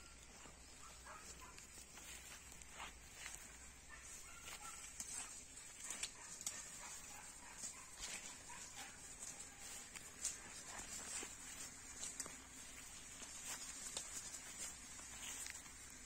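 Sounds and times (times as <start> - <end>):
soft clicks and rustles: 0.0 - 16.0.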